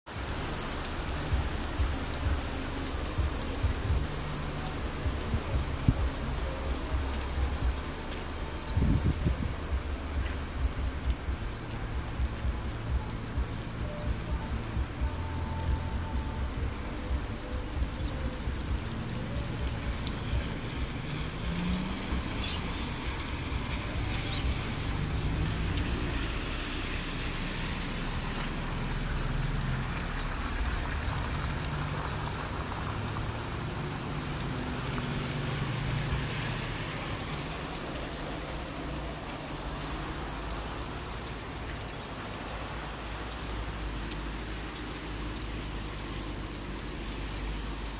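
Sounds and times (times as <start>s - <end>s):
rain falling on wet road: 0.1s - 47.9s.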